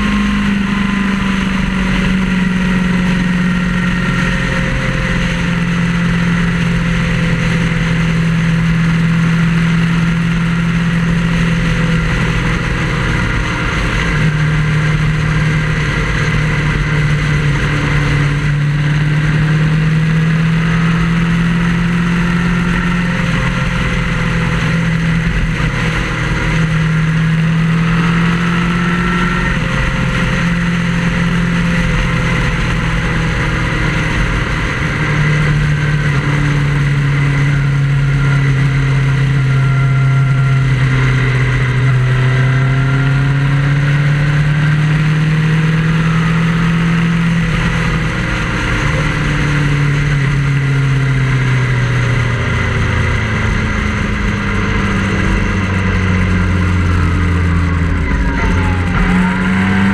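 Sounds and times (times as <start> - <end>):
vehicle engine droning: 0.0 - 59.9
wind and road noise: 0.0 - 59.9.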